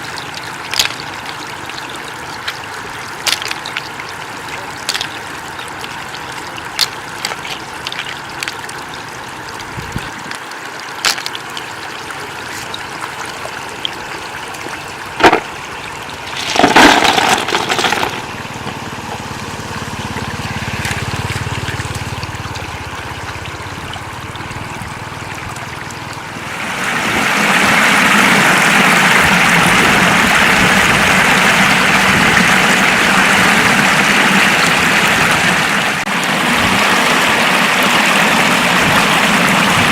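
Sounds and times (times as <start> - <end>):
floodwater flowing: 0.0 - 39.9.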